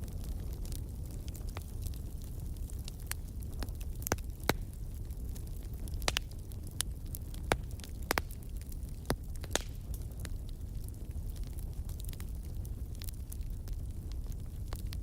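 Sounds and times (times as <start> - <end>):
burning wood crackling: 0.0 - 15.0
campfire flames rumbling: 0.0 - 15.0.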